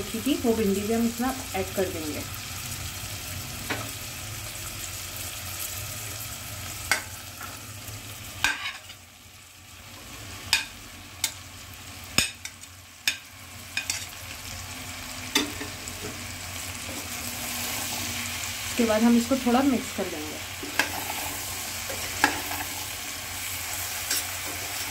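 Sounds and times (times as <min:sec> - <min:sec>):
oil sizzling in a pan: 0:00.0 - 0:24.9.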